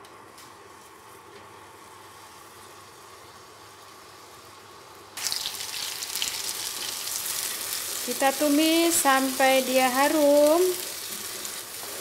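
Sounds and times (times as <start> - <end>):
spice paste sizzling in oil: 0.7 - 12.0.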